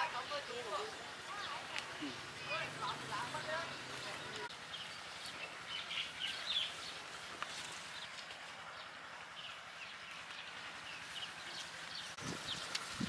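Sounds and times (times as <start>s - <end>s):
rural outdoor ambience: 0.0s - 13.0s.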